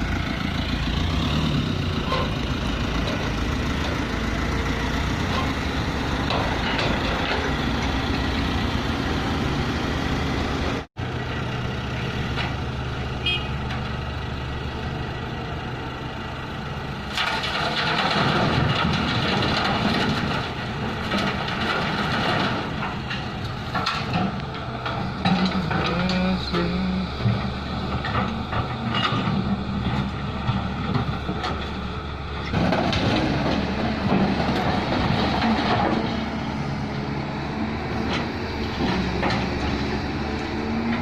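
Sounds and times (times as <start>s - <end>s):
diesel machinery engines running: 0.0s - 41.0s.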